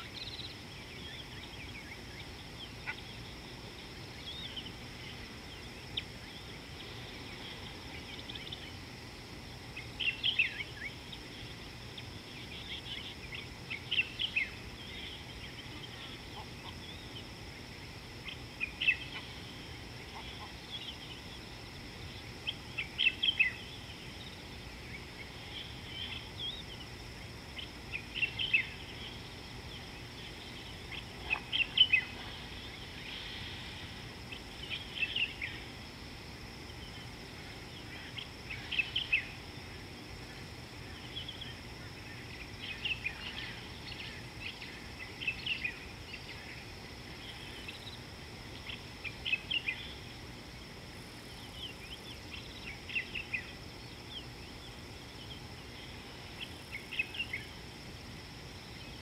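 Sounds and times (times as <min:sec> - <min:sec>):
birds chirping: 0:00.0 - 0:09.0, 0:09.7 - 0:35.9, 0:36.6 - 0:50.1
steady high hiss: 0:00.0 - 0:59.0.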